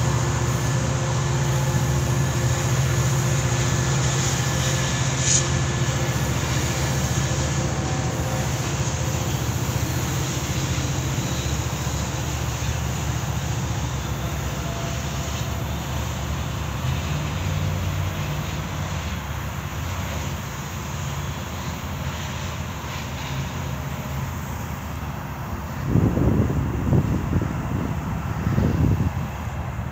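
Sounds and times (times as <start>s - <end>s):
train hum and rumble: 0.0s - 29.9s.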